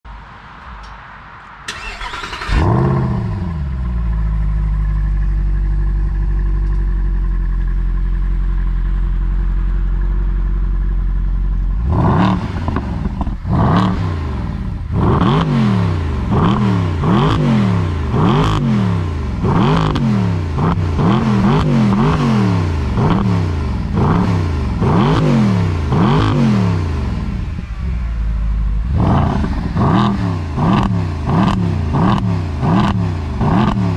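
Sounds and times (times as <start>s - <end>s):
car engine starting and idling: 1.6s - 33.9s
car engine revving: 1.7s - 33.9s.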